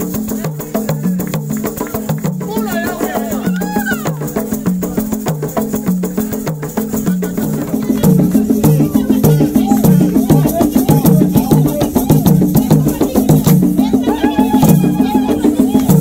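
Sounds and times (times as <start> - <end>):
hand drums: 0.0 - 16.0
shaker rattles: 0.0 - 16.0.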